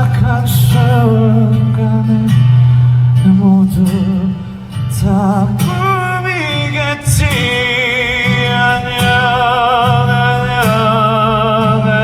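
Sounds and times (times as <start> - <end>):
acoustic guitar: 0.0 - 12.0
man singing pop ballad: 0.0 - 12.0.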